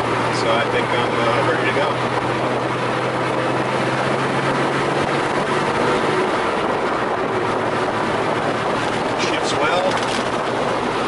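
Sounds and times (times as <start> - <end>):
car engine running: 0.0 - 11.0
low engine hum: 0.0 - 11.0
road noise: 0.0 - 11.0.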